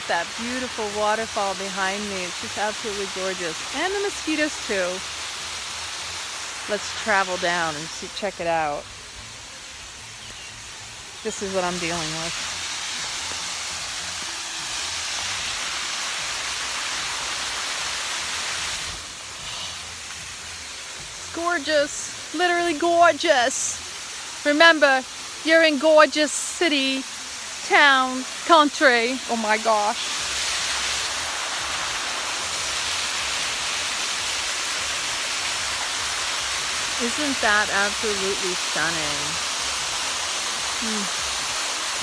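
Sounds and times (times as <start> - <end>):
waterfall rushing: 0.0 - 9.7, 10.7 - 19.1, 20.1 - 42.0.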